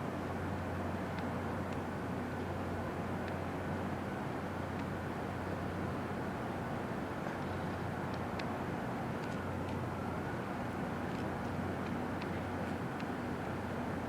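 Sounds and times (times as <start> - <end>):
outdoor background noise: 0.0 - 14.0
steady low hum: 0.0 - 14.0.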